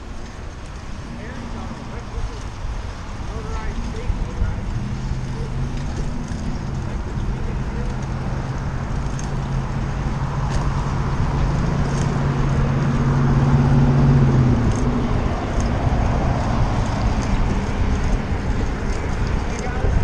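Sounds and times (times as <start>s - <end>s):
vehicle humming: 0.0s - 20.0s
wind and road noise: 0.0s - 20.0s.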